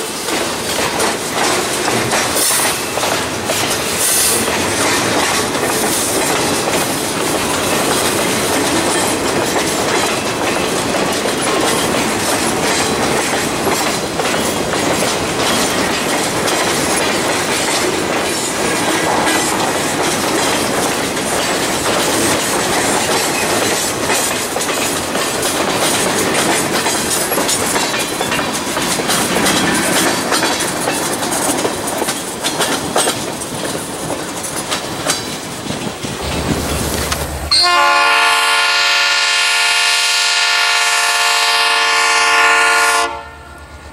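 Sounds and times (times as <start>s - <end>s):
wheels clicking over rail joints: 0.0s - 37.7s
freight train wheels rumbling: 0.0s - 43.9s
train cars clanking: 0.0s - 43.9s.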